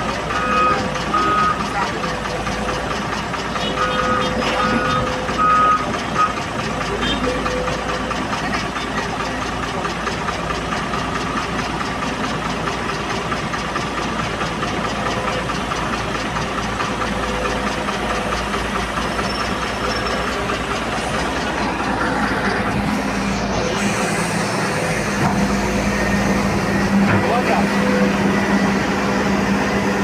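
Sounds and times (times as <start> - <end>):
diesel engine chugging: 0.0 - 30.0.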